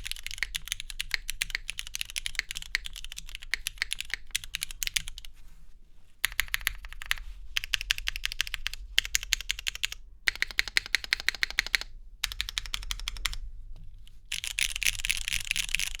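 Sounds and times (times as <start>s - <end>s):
mechanical keyboard typing: 0.0s - 5.3s, 6.2s - 13.4s, 14.3s - 16.0s.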